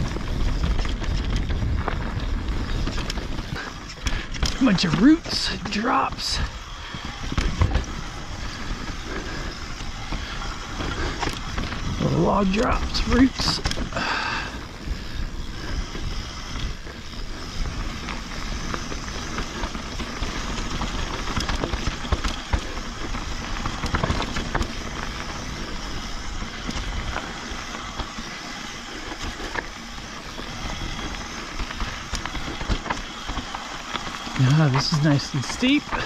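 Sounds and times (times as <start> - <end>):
bike knocking over bumps: 0.0 - 12.2, 17.9 - 35.0
bike tyres rushing on dirt: 0.0 - 36.0.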